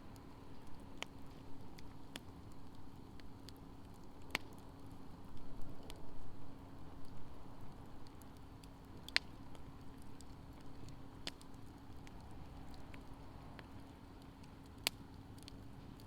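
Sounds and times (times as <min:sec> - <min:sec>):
sharp fire snaps: 0:00.0 - 0:16.0
wood fire crackling: 0:00.0 - 0:16.0.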